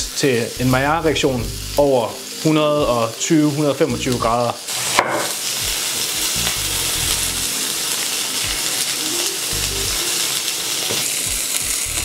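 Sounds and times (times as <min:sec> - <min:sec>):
burger patty sizzling in a pan: 0:00.0 - 0:12.0.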